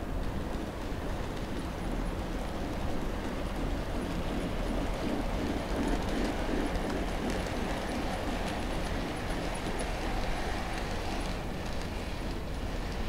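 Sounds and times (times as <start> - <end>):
model train wheels and motors rumbling: 0.0 - 13.0.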